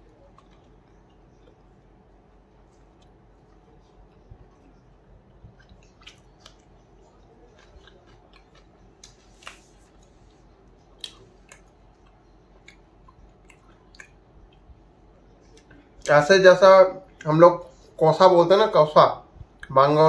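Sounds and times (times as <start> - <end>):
faint chewing: 0.0 - 16.1.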